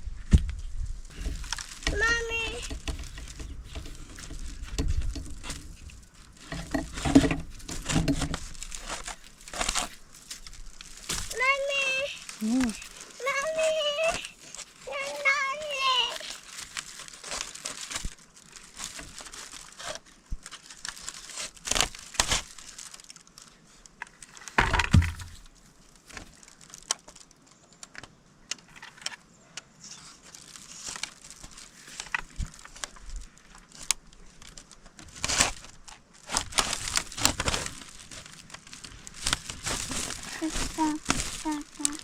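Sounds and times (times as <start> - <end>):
rustling and crinkling: 0.0 - 42.0.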